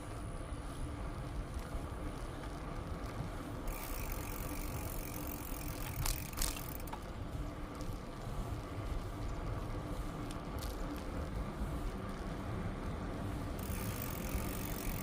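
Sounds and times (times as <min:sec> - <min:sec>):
bicycle tyres rumbling: 0:00.0 - 0:15.0.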